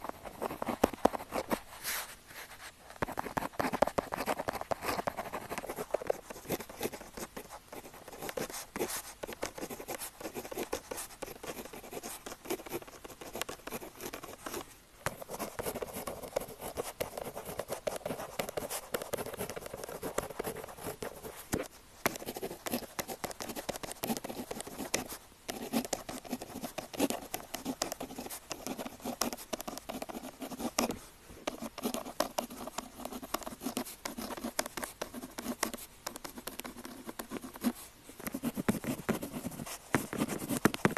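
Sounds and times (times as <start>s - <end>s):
pen scratching on paper: 0.0s - 2.0s, 2.9s - 40.9s.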